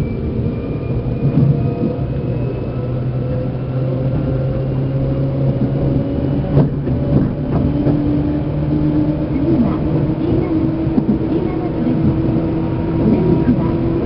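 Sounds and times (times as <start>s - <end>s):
electric train motor hum: 0.0s - 14.0s
train rolling noise: 0.0s - 14.0s.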